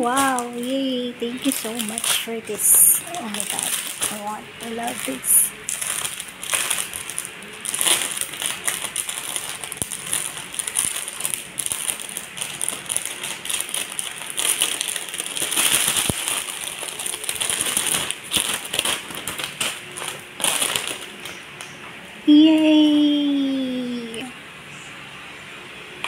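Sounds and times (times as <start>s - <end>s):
plastic bag crinkling: 0.0s - 21.6s.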